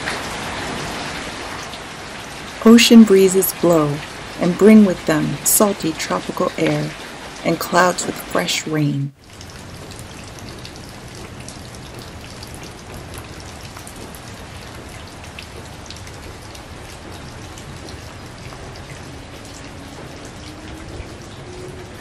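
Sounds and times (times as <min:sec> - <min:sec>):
rain falling on leaves and paving: 0:00.0 - 0:08.4, 0:09.2 - 0:22.0.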